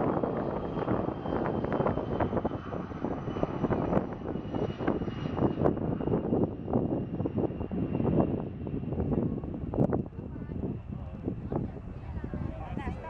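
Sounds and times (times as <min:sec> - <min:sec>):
jet taking off: 0:00.0 - 0:13.0.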